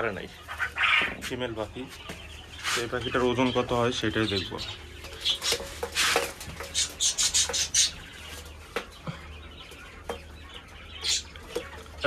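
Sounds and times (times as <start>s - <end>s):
quail chirping: 0.0s - 12.0s.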